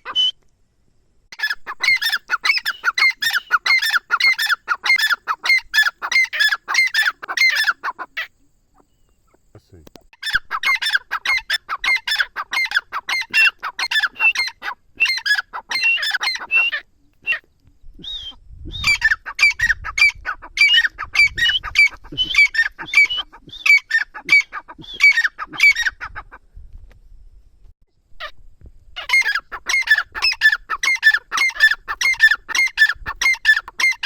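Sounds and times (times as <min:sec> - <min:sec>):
bird calling repeated notes: 0:01.4 - 0:09.4, 0:10.2 - 0:25.8, 0:29.0 - 0:34.0.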